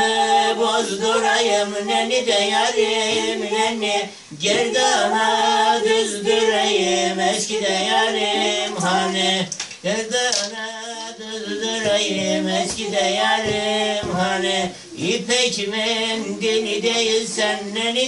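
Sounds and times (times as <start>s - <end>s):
unaccompanied singing: 0.0s - 18.0s.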